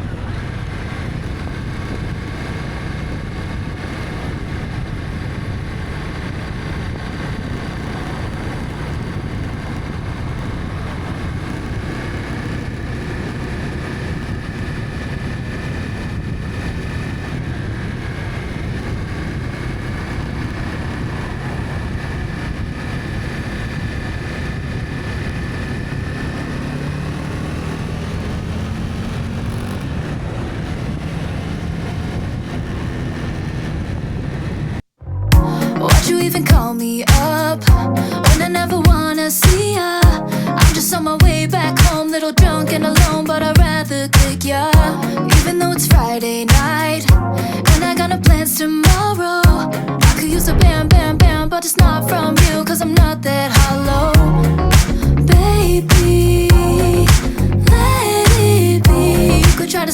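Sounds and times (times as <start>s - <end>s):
motorcycle engine cruising: 0.0s - 35.7s, 36.5s - 59.9s
wind noise on microphone: 0.0s - 59.8s.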